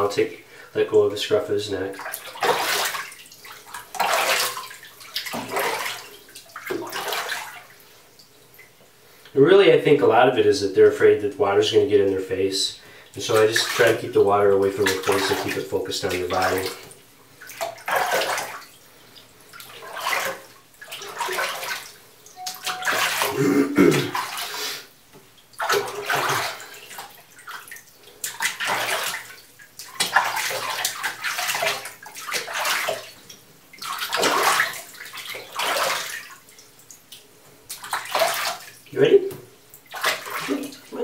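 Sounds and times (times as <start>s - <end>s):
bathwater sloshing and splashing: 0.0s - 41.0s.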